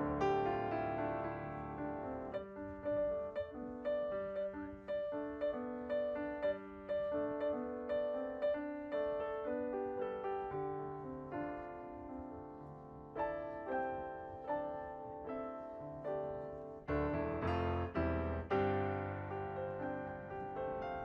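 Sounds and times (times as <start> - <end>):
gentle solo piano music: 0.0 - 21.0.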